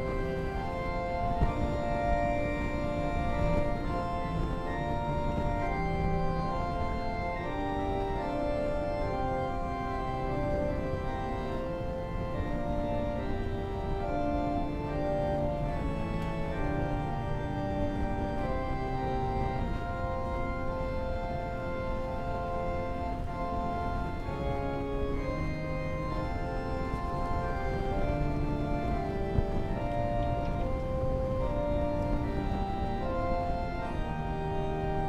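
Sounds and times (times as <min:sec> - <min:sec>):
church organ chords: 0:00.0 - 0:35.0.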